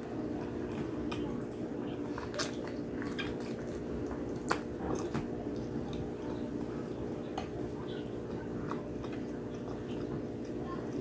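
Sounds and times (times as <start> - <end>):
steady low hum: 0.0 - 11.0
wet chewing and lip-smacking: 0.2 - 11.0.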